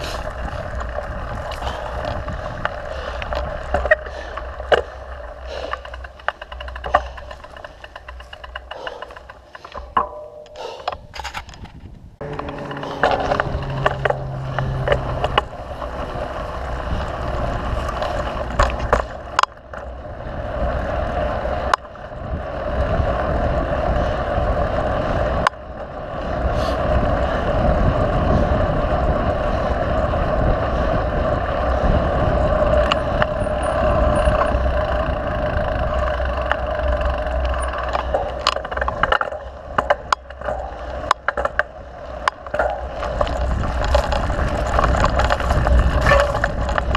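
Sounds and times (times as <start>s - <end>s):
bike clicks and rattles: 0.0s - 46.9s
bike tyre riding noise: 0.0s - 46.9s.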